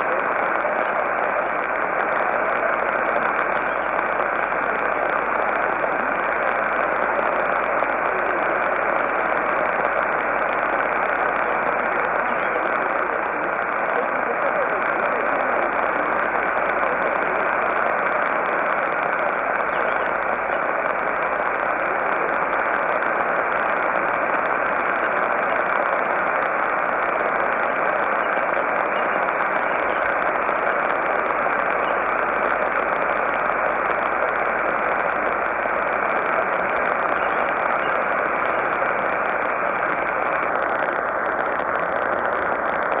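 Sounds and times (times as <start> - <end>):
muffled shortwave radio static: 0.0 - 43.0.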